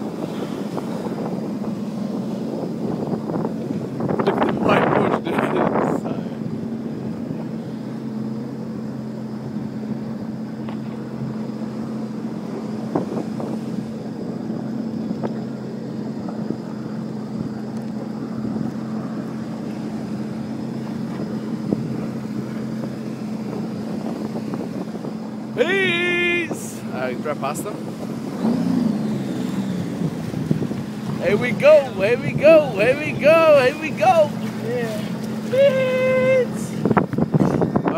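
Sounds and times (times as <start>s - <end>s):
jet ski engine running: 0.0s - 37.9s.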